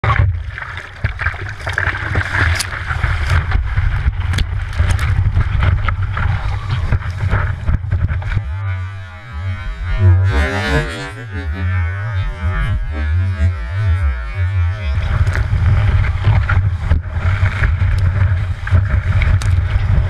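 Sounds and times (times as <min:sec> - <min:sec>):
wind on microphone: 0:02.0 - 0:20.0.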